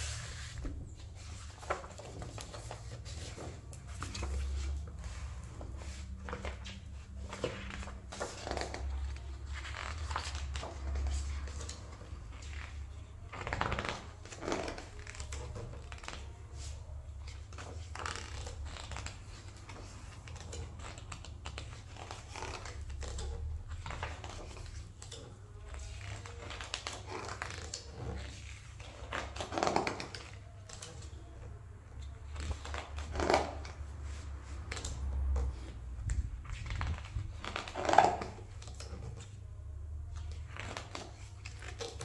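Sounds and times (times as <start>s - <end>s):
book pages turning: 0.0s - 42.0s.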